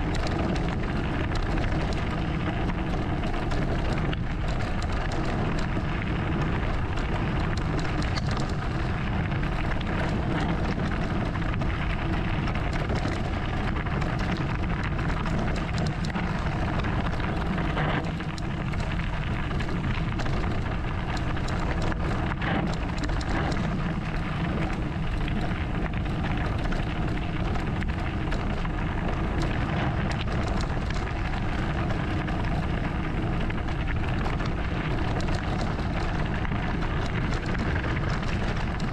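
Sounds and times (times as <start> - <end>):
bike clicks and rattles: 0.0 - 38.9
bike tyres crunching on gravel: 0.0 - 38.9
low rumble: 0.0 - 38.9.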